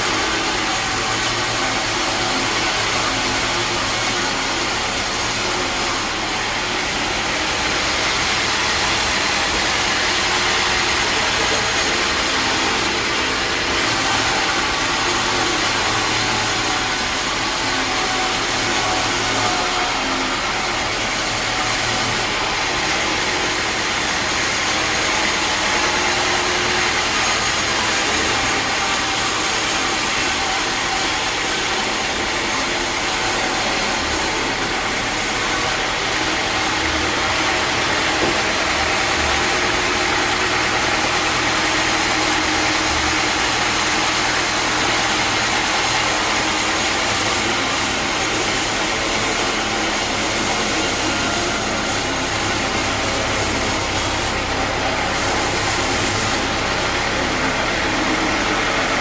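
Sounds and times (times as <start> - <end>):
bandsaw machinery whirring: 0.0 - 59.0.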